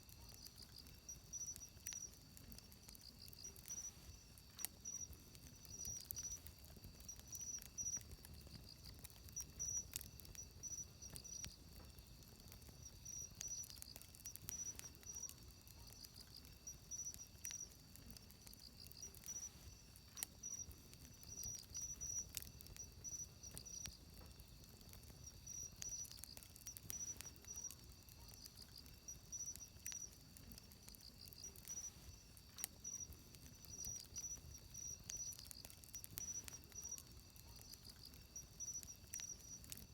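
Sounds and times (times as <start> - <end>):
insects chirping: 0.0 - 39.9
wood fire crackling and popping: 0.0 - 39.9.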